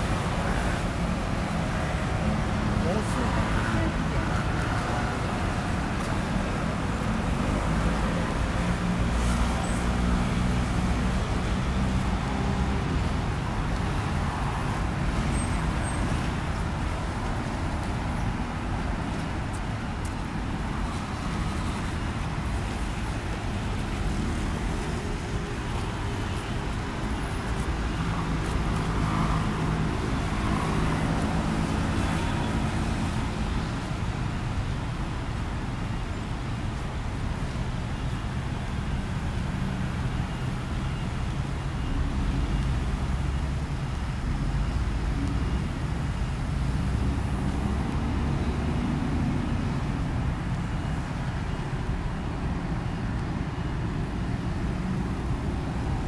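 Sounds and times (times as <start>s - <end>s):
cars and scooters passing: 0.0s - 56.0s.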